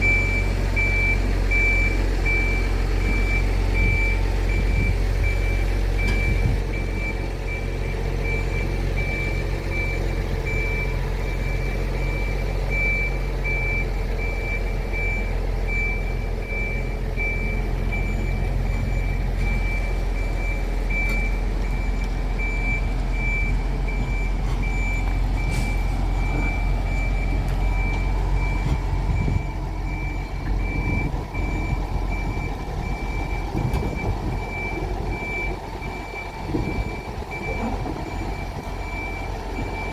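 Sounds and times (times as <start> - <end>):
engine humming: 0.0 - 39.9
reversing warning beeper: 0.0 - 39.9.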